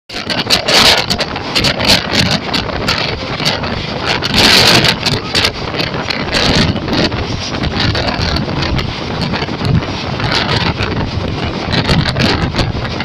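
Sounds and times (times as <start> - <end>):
train running on track: 0.1 - 13.0
wind buffeting microphone: 0.1 - 13.0.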